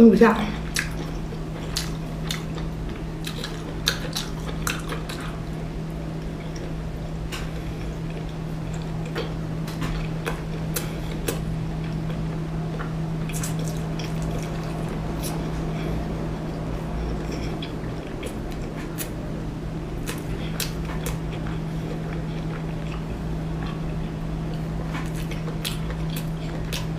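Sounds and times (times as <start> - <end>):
steady low hum: 0.0 - 26.9
wet mouth eating sounds: 0.5 - 5.6, 7.4 - 16.1, 16.8 - 19.2, 20.0 - 26.9.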